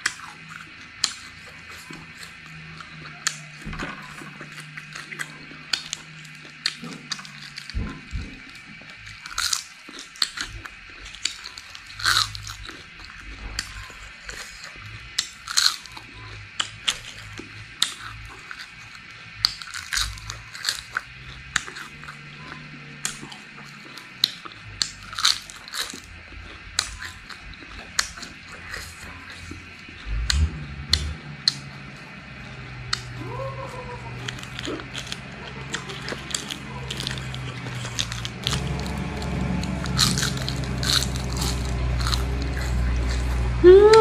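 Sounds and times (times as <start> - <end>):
crunchy food being chewed: 0.0 - 44.0.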